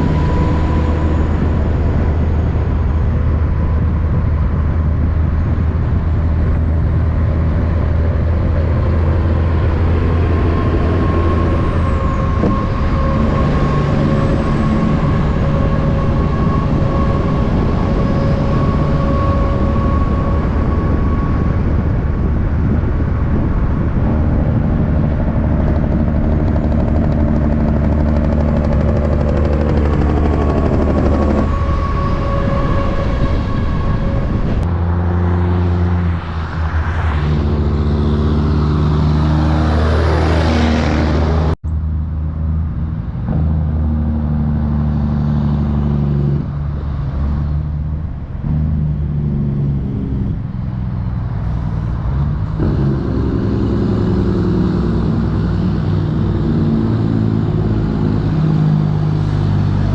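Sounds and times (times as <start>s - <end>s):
diesel truck engines passing: 0.0s - 59.9s.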